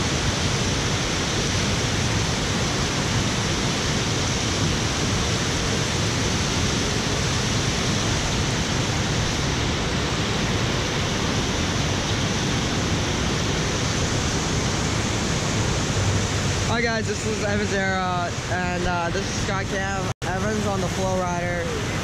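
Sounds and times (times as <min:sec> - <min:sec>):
water rushing steadily: 0:00.0 - 0:22.0.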